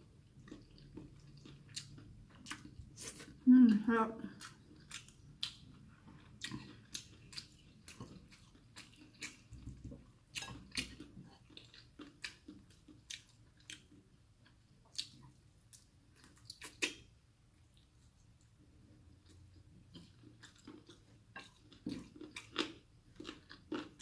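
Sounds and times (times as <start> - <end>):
person chewing food: 0.0 - 3.4, 4.3 - 24.0.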